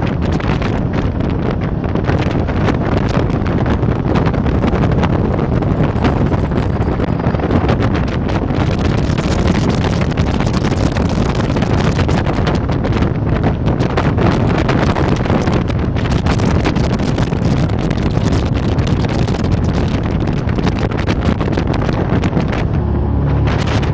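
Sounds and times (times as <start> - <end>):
boat engine: 0.0 - 23.9
water rushing past hull: 0.0 - 23.9
wind buffeting microphone: 0.0 - 23.9.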